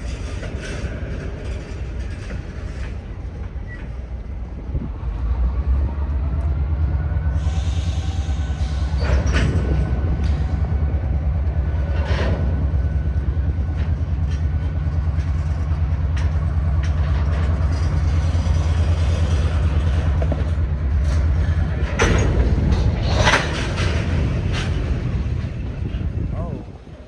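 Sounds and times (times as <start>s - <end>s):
freight train rumbling: 0.0s - 27.0s
train cars clicking and clanking: 0.0s - 27.0s.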